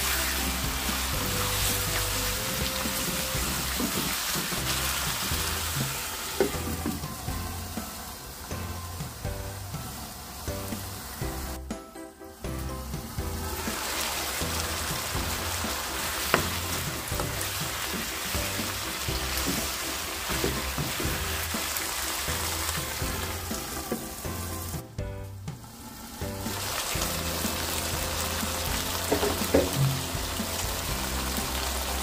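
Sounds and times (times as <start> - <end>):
chicken sizzling in a wok: 0.0 - 32.0.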